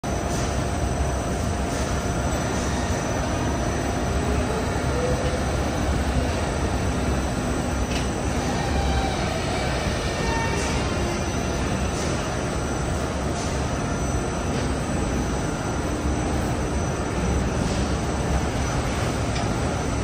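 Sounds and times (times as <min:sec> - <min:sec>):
machinery rumbling: 0:00.4 - 0:20.0.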